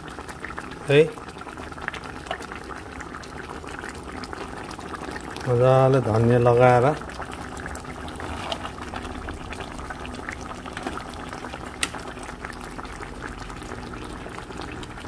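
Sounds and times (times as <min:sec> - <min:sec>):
soup bubbling in a pan: 0:00.0 - 0:15.0.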